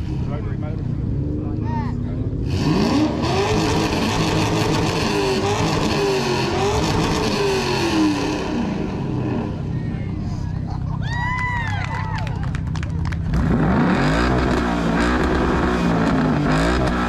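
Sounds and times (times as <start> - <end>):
car engine revving: 0.0 - 10.4, 12.7 - 17.0.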